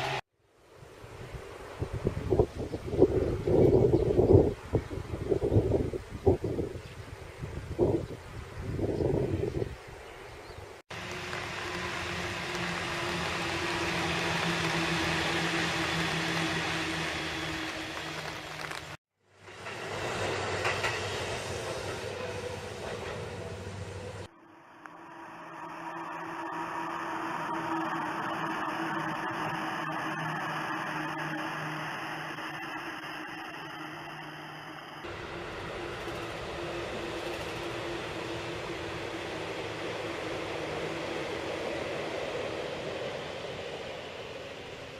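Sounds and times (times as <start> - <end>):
electric train passing: 0.0 - 44.9.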